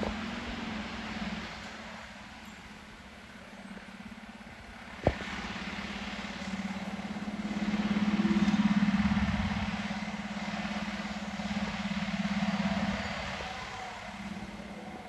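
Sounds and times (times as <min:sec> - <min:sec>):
diesel engine throbbing: 0:00.0 - 0:15.0.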